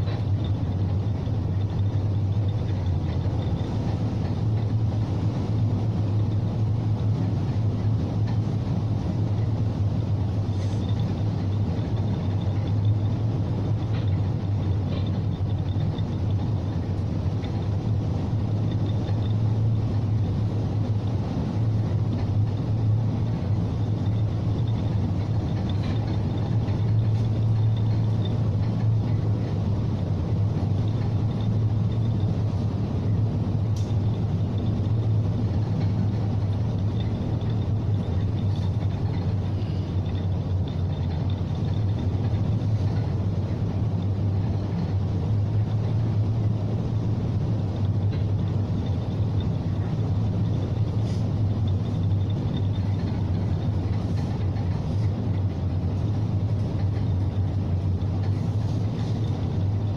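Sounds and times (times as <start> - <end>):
ship engine and hull rumble: 0.0 - 59.9.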